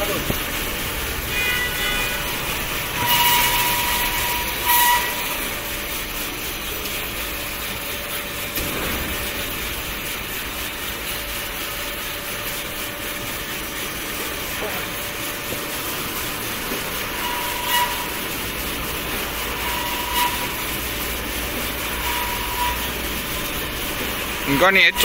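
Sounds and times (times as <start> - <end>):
band saw machine running: 0.0 - 25.0.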